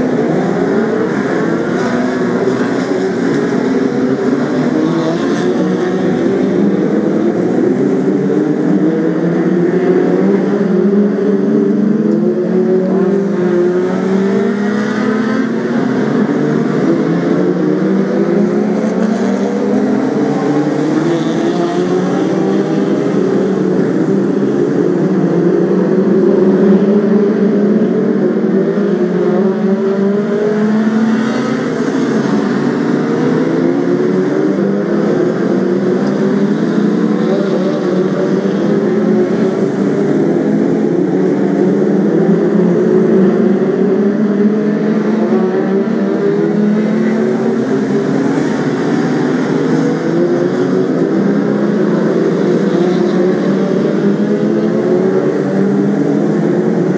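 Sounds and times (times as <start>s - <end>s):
racing car engines: 0.0s - 56.9s.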